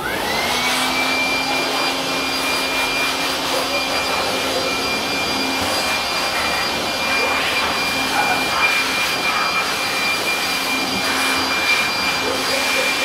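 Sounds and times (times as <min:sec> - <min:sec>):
electric blower whining: 0:00.0 - 0:13.0.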